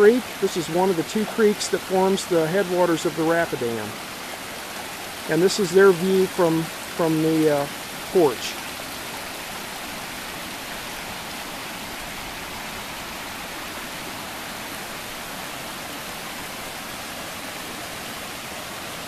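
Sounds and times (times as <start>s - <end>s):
creek flowing: 0.0s - 19.0s.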